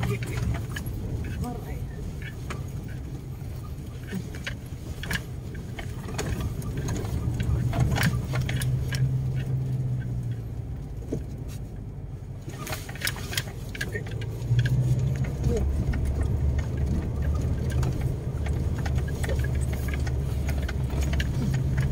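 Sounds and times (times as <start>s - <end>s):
car engine and road hum: 0.0s - 21.9s
car rattling over ruts: 0.0s - 21.9s.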